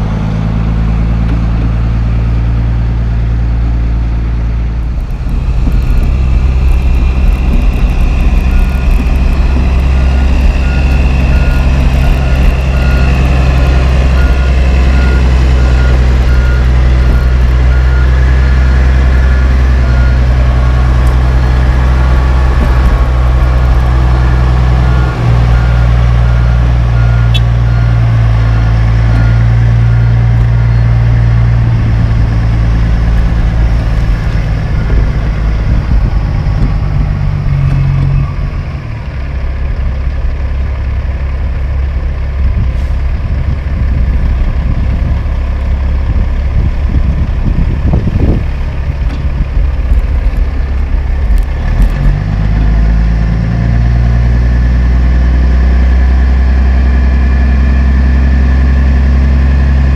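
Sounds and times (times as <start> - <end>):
diesel truck engine pulling away: 0.0 - 59.9.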